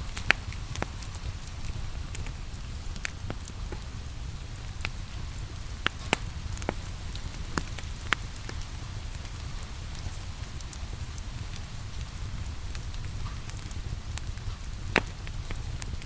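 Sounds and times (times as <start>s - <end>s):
rain hiss: 0.0s - 16.0s
wood fire crackling and popping: 0.0s - 16.0s.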